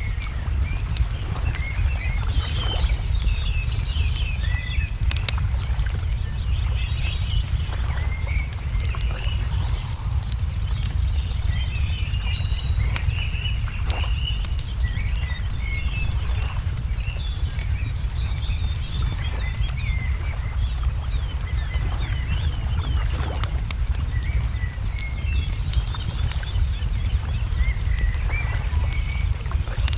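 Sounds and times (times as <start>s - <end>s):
songbirds chirping: 0.0s - 29.9s
steady low rumble: 0.0s - 29.9s
wood fire crackling: 0.0s - 29.9s.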